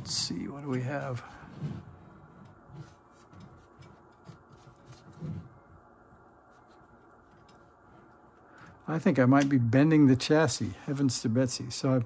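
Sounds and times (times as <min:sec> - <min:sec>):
hands rubbing and scraping metal: 0:00.0 - 0:09.9.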